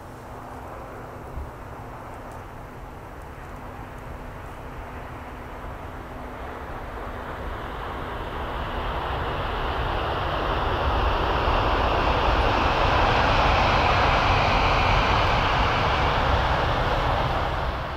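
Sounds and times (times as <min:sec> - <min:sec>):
high-speed train passing: 0:00.0 - 0:17.9
rush of air and running noise: 0:00.0 - 0:17.9.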